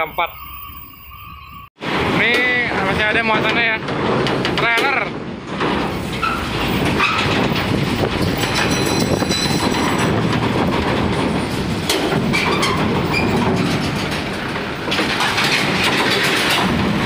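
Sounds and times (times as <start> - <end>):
truck rumbling: 0.0 - 17.0
rattling clatter of knocks: 1.8 - 17.0.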